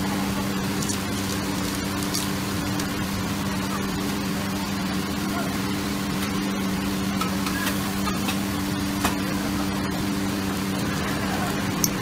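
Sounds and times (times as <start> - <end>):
gas burner roaring: 0.0 - 12.0
kitchen fan: 0.0 - 12.0.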